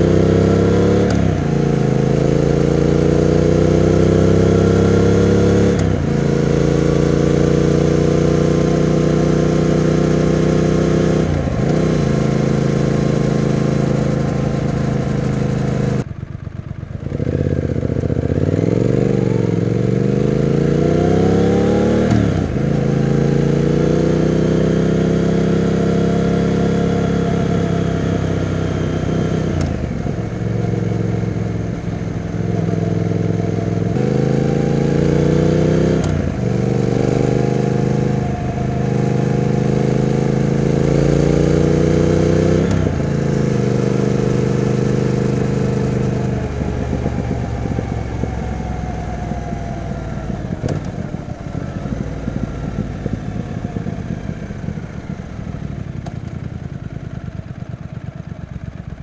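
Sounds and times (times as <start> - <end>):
motorcycle engine shifting gears: 0.0 - 59.0.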